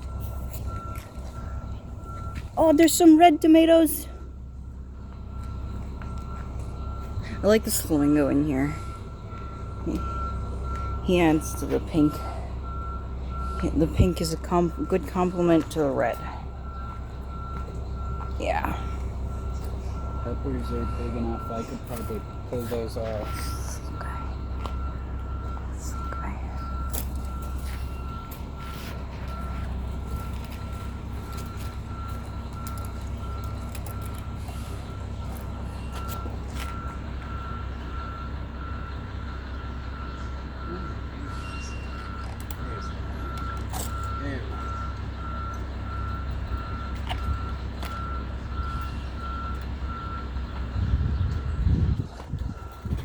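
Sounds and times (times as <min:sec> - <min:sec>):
low engine rumble: 0:00.0 - 0:53.0
vehicle reversing alarm beeping: 0:00.0 - 0:53.0.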